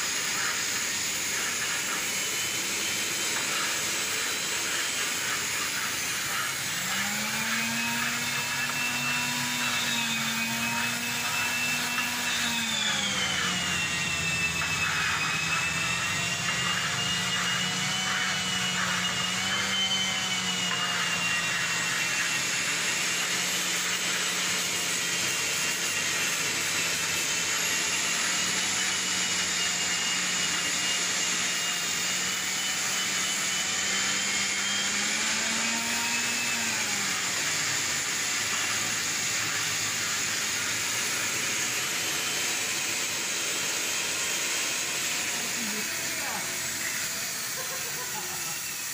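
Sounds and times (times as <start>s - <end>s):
cutting torch hissing roar: 0.0s - 35.7s, 36.6s - 48.9s.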